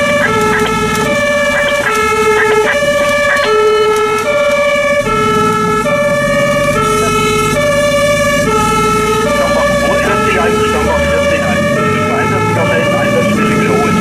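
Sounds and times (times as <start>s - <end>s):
truck engine running: 0.0s - 14.0s
two-tone fire engine siren: 0.0s - 14.0s.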